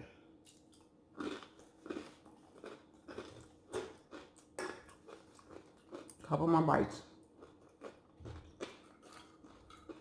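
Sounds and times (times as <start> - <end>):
person chewing food: 0.4 - 6.2, 7.2 - 10.0.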